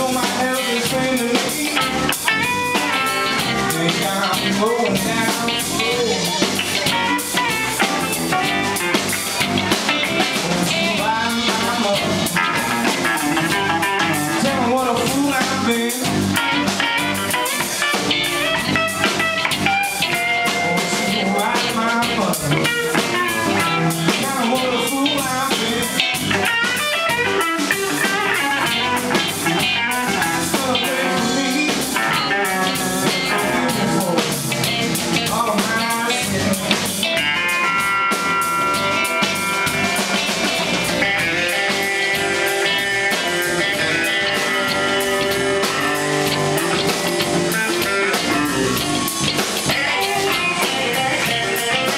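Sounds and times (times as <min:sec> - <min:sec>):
drum kit: 0:00.0 - 0:51.9
electric bass: 0:00.0 - 0:51.9
electric guitar lead lines: 0:00.0 - 0:51.9.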